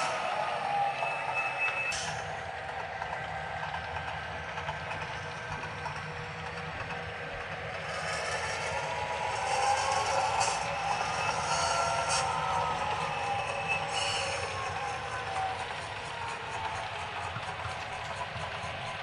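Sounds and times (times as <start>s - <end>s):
model train diesel engine sound: 0.0s - 19.0s.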